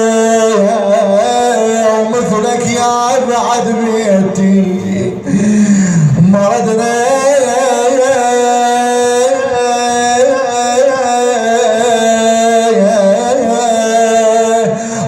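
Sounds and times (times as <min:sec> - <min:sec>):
man singing a long note: 0:00.0 - 0:15.0.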